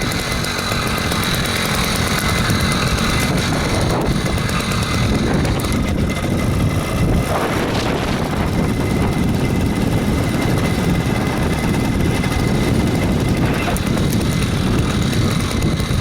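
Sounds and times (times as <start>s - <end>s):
two-stroke engine droning: 0.0s - 16.0s.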